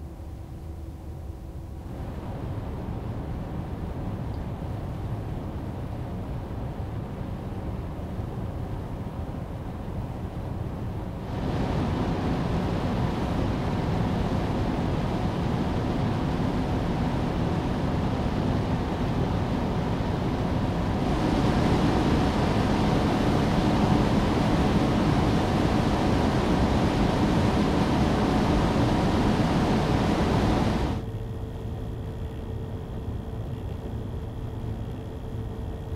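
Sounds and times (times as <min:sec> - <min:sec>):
computer fans humming: 0:00.0 - 0:35.9.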